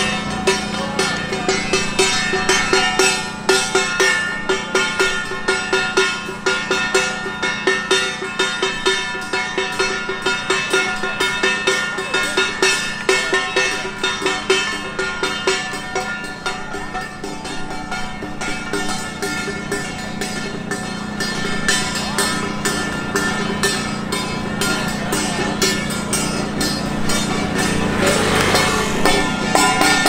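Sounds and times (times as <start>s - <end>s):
small gong struck: 0.0s - 30.0s.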